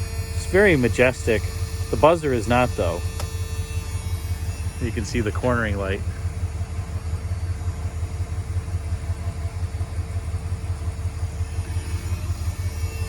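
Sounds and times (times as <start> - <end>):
car engine idling: 0.0 - 13.0
faint steady tone: 0.0 - 13.0.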